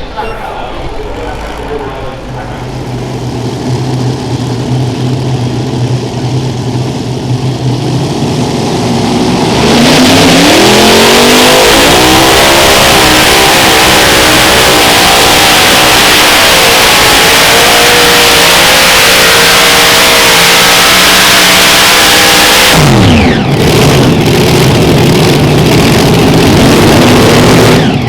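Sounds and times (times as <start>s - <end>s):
tractor engines revving: 0.0s - 28.0s.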